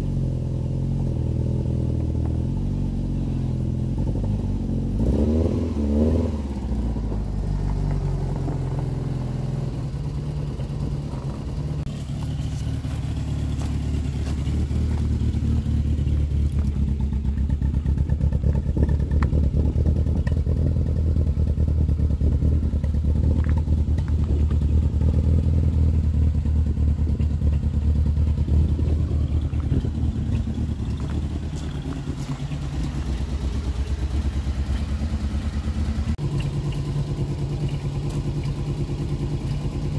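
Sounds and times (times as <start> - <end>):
car engine idling: 0.0 - 5.4, 6.0 - 39.9.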